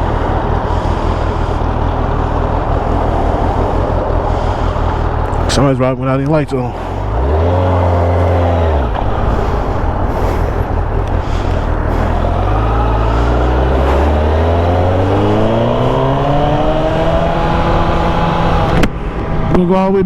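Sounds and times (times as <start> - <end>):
wind rush: 0.0 - 7.6, 8.3 - 19.6
motorcycle engine revving: 0.0 - 19.4.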